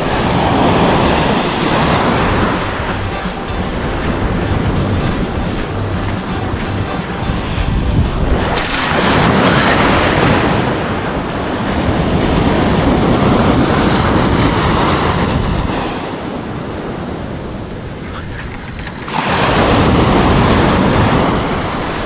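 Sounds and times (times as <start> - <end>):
surf washing onto shore: 0.0 - 22.0
wind on microphone: 0.0 - 22.0.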